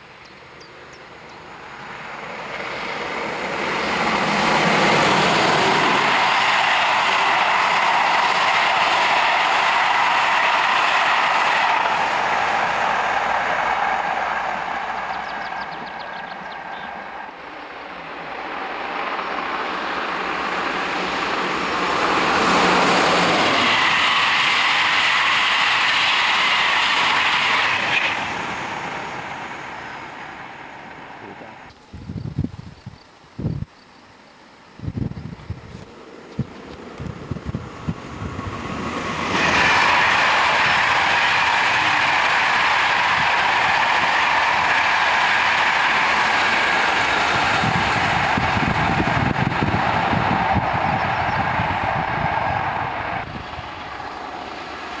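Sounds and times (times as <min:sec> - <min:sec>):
passenger train passing: 0:00.0 - 0:32.3, 0:34.4 - 0:55.0
wheels rushing on rails: 0:00.0 - 0:33.7, 0:34.3 - 0:55.0
low locomotive hum: 0:00.0 - 0:55.0.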